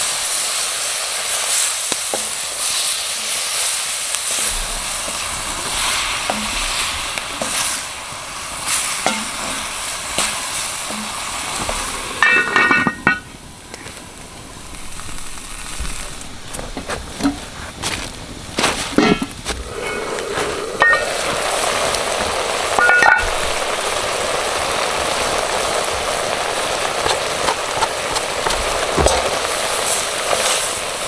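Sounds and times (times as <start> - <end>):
stir fry sizzling in a pan: 0.0 - 31.0.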